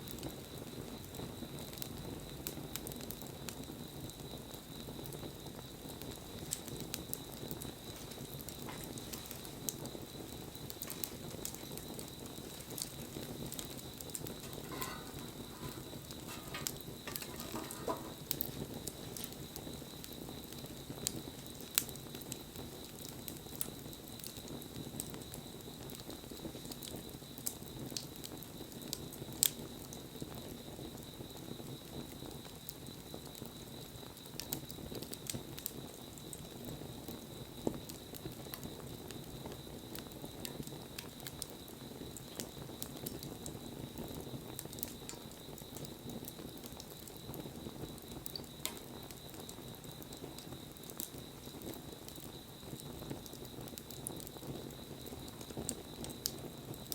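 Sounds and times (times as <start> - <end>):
bonfire crackling: 0.0 - 56.9
fire popping and snapping: 0.0 - 56.9
hiss of burning fire: 0.0 - 56.9.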